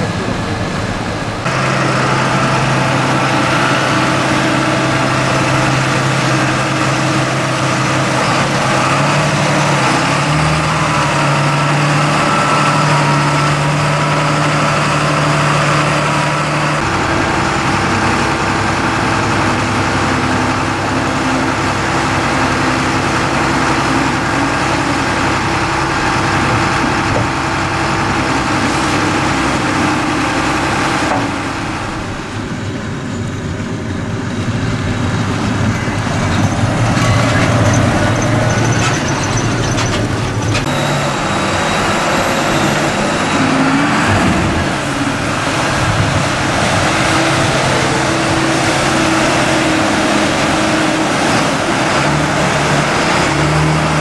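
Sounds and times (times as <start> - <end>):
loader diesel engine working: 0.0 - 54.0
tractor diesel engine running: 0.0 - 54.0.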